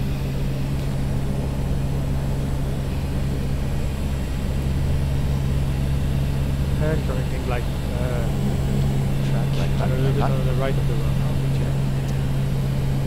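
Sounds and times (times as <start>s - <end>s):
low rumble: 0.0s - 13.0s
turboprop propeller drone: 0.0s - 13.0s.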